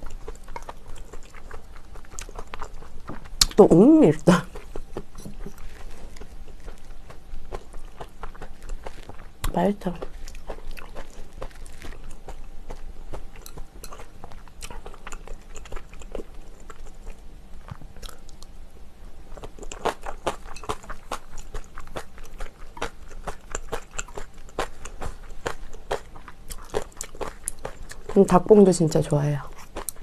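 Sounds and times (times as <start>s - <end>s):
person chewing: 0.0s - 3.6s, 4.4s - 18.6s, 19.3s - 28.3s, 29.5s - 30.0s.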